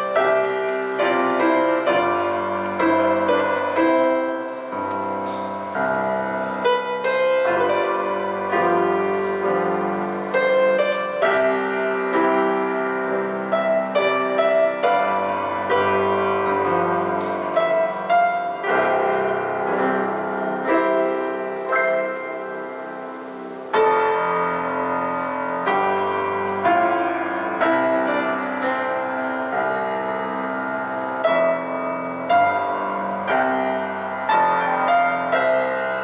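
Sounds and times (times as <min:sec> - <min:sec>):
piano playing chords: 0:00.0 - 0:36.0.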